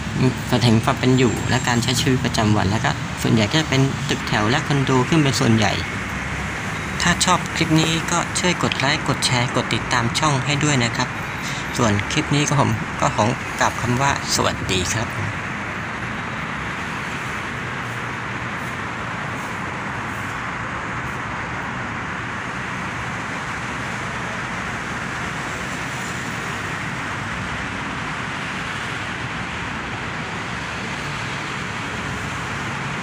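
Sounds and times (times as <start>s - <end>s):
road traffic noise: 0.0s - 33.0s.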